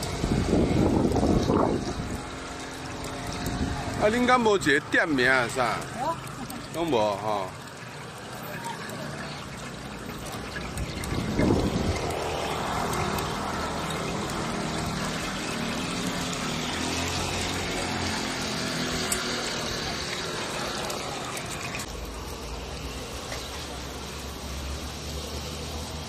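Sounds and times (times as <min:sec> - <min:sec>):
buns sizzling in oil: 0:00.0 - 0:26.0.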